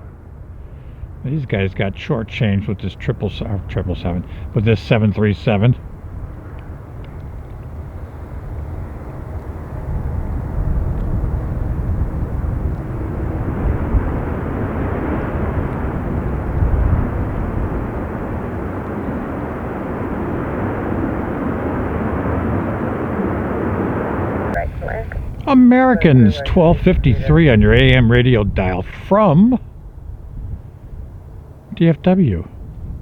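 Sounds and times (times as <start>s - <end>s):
jet airliner passing: 0.0s - 32.6s.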